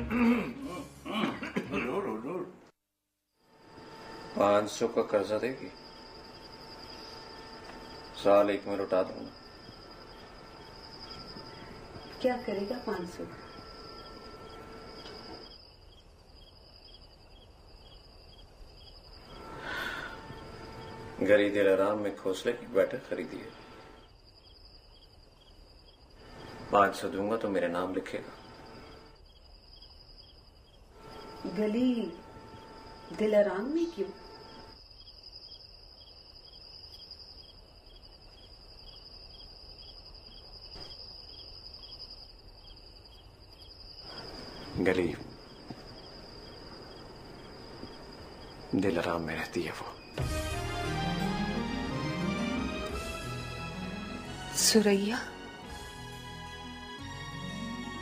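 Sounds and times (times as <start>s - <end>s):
crickets chirping: 3.4s - 58.0s.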